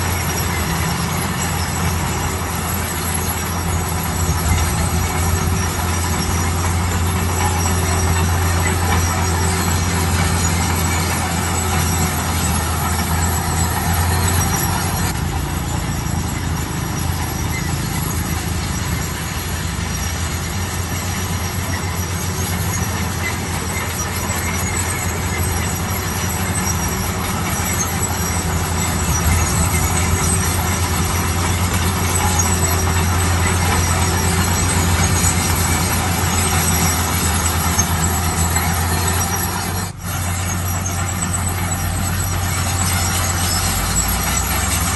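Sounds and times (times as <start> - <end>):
diesel construction machinery running: 0.0 - 44.9.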